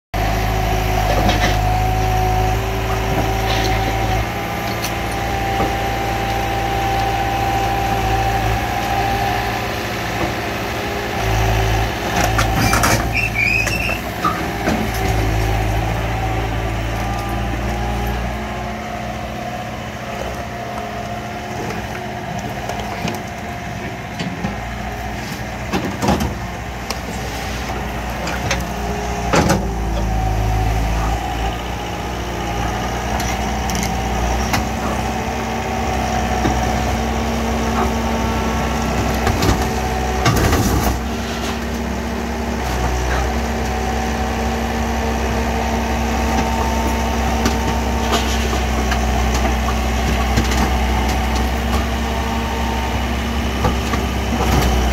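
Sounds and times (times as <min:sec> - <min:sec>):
diesel engine under load: 0:00.2 - 0:54.9.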